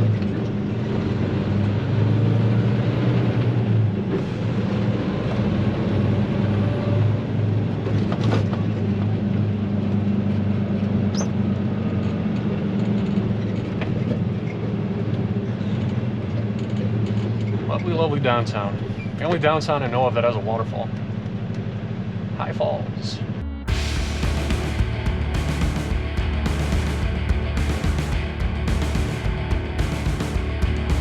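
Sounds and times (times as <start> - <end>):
truck engine droning: 0.0 - 31.0.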